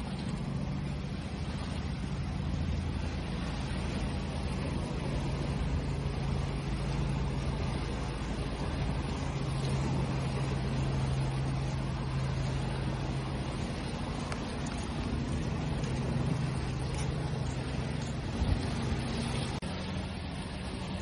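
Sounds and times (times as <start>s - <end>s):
low motor hum: 0.0s - 21.0s
ocean waves rushing: 0.0s - 21.0s.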